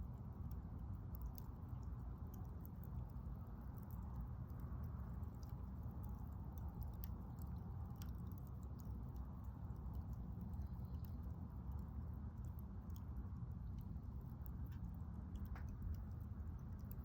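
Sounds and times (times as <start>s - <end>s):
campfire crackling: 0.0s - 17.0s
low steady rumble: 0.0s - 17.0s.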